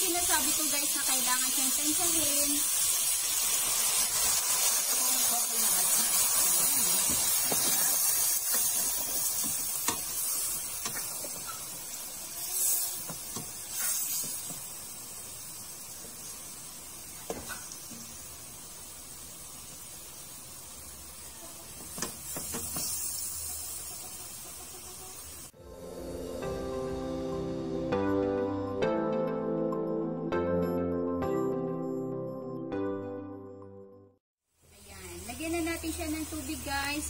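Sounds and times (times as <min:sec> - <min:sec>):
pork sizzling in a pot: 0:00.0 - 0:28.1, 0:34.4 - 0:37.0.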